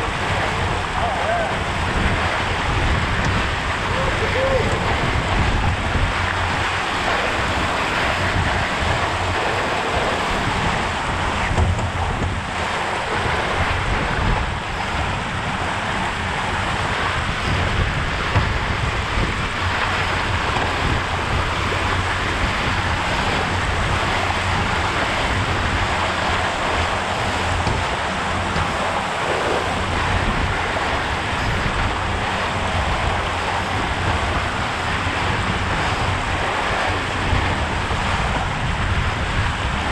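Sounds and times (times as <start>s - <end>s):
water rushing along a hull: 0.0s - 39.9s
wind buffeting microphone: 0.0s - 39.9s.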